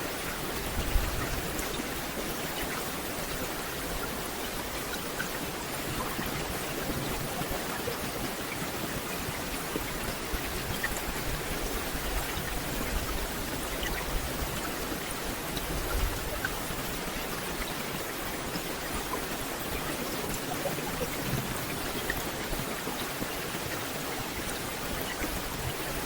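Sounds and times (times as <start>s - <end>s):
rain falling on trees: 0.0s - 26.0s.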